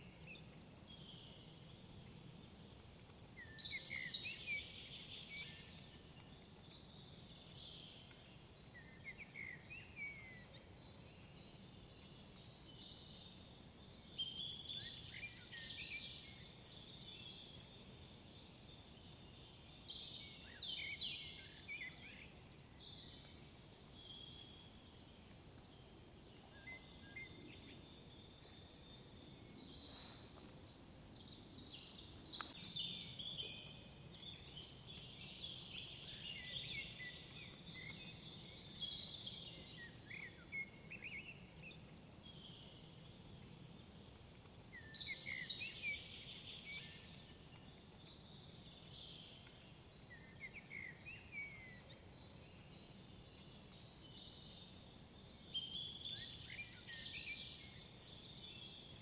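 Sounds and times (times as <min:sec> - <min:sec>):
faint steady hiss: 0:00.0 - 0:59.0
songbirds singing: 0:00.0 - 0:59.0.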